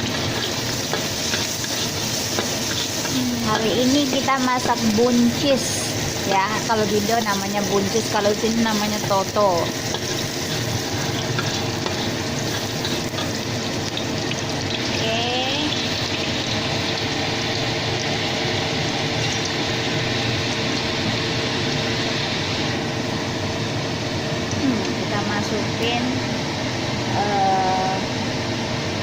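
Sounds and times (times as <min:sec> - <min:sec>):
oil sizzling in a pan: 0:00.0 - 0:26.2.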